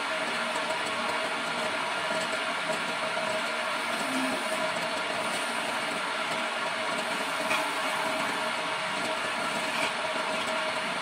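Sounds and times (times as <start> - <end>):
chisel cutting spinning wood: 0.0 - 11.0
lathe motor hum: 0.0 - 11.0.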